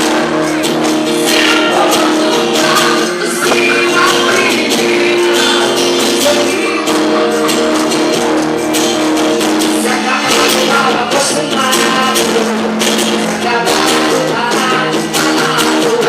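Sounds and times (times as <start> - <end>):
singing over a band: 0.0 - 8.6, 9.6 - 16.0
regular percussion beat: 0.0 - 16.0.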